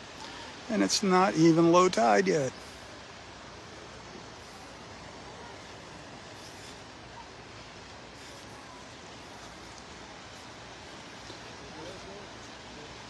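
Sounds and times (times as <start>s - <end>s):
small waves washing in: 0.0s - 13.0s
wind hiss: 0.0s - 13.0s.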